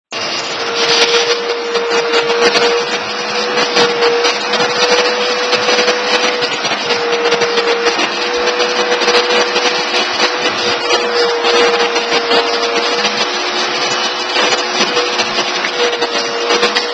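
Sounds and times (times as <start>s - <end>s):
vacuum cleaner running: 0.0s - 16.9s
nozzle rubbing over fur: 0.2s - 16.9s.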